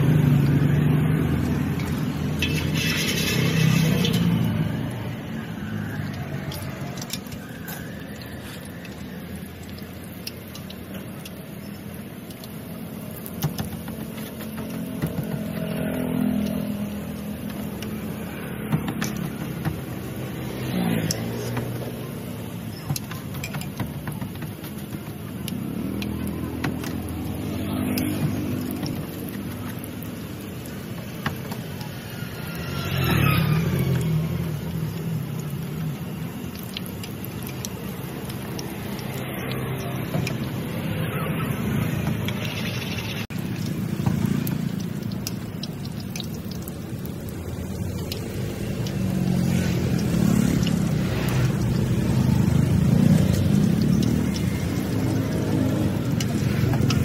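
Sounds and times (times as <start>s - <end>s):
dough deep-frying in oil: 0.0s - 57.0s
motorbike and car engines passing: 0.0s - 57.0s.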